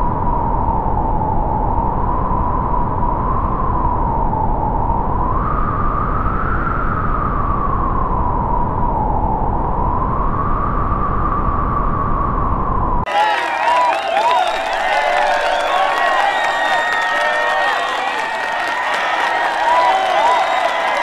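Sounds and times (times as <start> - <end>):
wavering whistling tone: 0.0 - 21.0.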